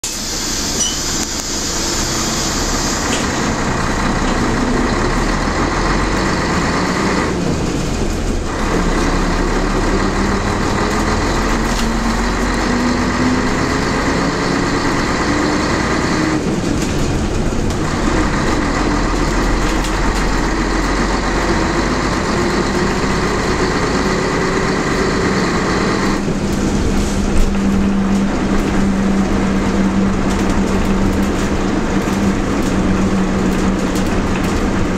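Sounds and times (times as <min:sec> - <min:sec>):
bus diesel engine accelerating: 0:00.0 - 0:34.9.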